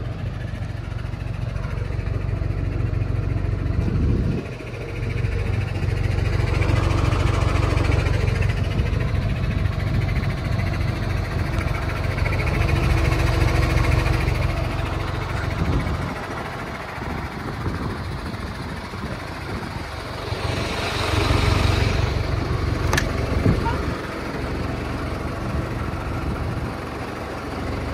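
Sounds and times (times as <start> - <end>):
diesel truck engine idling: 0.0 - 27.9.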